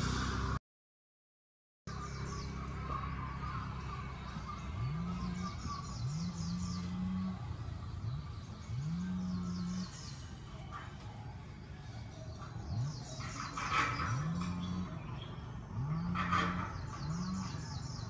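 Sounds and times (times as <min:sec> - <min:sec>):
birds chirping: 0:01.9 - 0:18.0.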